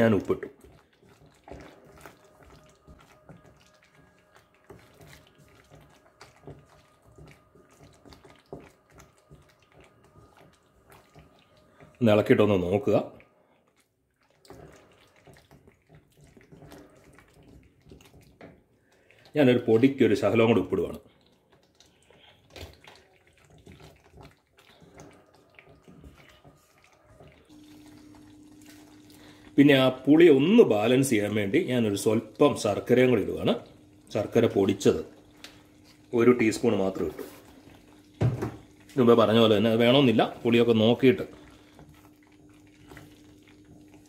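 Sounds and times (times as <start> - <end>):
spatula stirring thick paste: 0.0 - 44.0.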